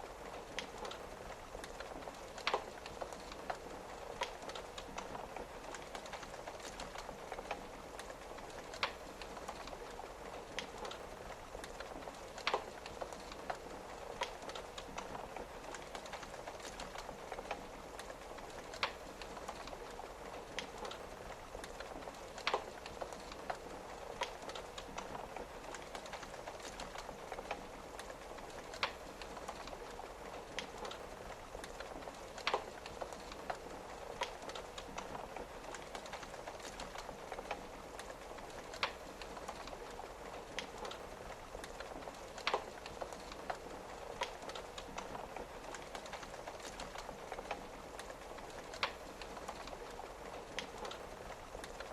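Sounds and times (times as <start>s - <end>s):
rain on a window: 0.0s - 51.9s
wood fire crackling: 0.0s - 51.9s.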